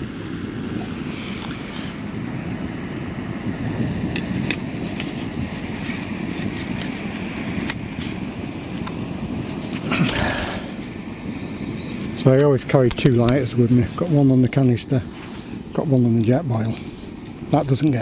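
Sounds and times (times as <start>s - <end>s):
gas stove burner rushing: 0.0s - 18.0s.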